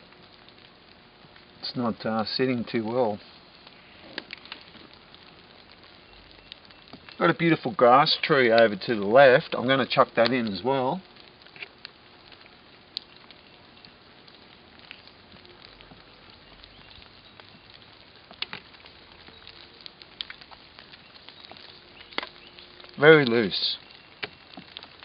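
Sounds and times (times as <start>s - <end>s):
light rain pattering: 0.0s - 25.0s
sharp ticks of raindrops: 0.0s - 25.0s.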